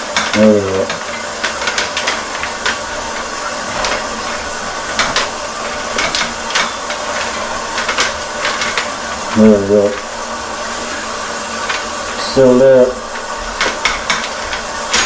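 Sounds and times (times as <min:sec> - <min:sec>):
cable hissing through drain: 0:00.0 - 0:15.0.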